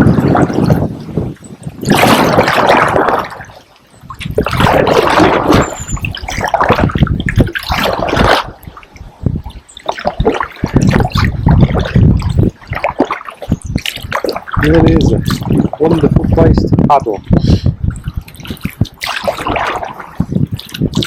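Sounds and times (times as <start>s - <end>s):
kayak paddle splashing water: 0.0s - 16.4s, 17.8s - 21.0s.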